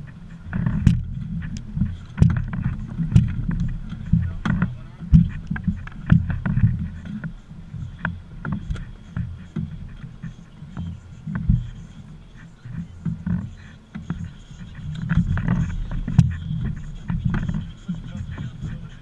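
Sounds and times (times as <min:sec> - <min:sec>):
water slapping against boat hull: 0:00.0 - 0:19.0.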